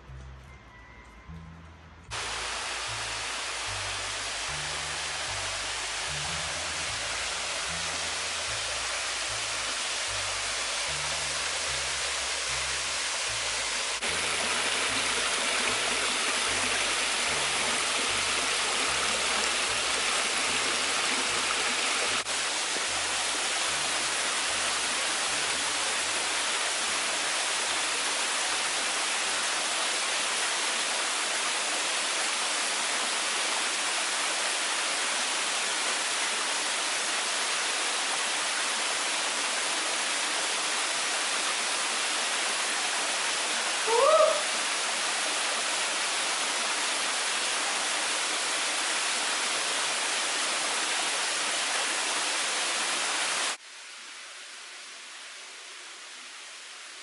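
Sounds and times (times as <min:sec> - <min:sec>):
water rushing over rock ledges: 0:02.1 - 0:53.6.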